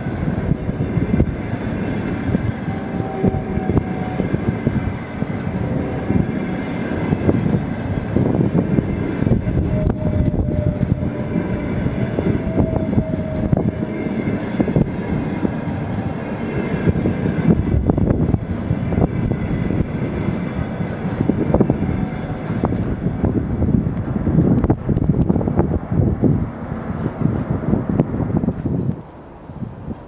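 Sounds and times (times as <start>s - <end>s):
wheels clicking on track: 0.0s - 25.8s
train rumbling past: 0.0s - 30.0s.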